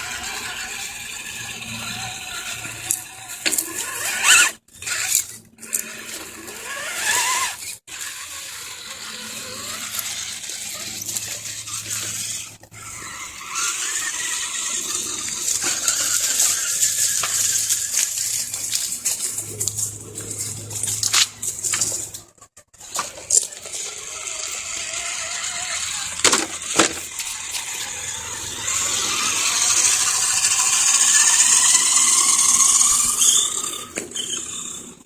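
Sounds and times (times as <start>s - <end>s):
electric motor and gears whining: 0.0s - 35.0s.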